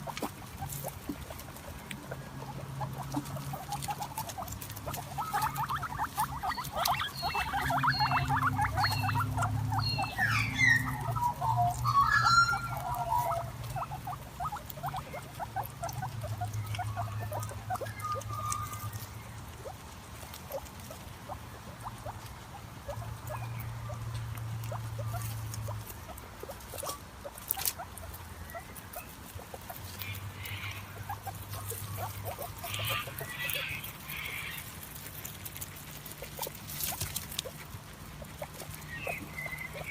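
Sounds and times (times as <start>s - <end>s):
guinea pig clicks and squeaks: 0.0s - 39.9s.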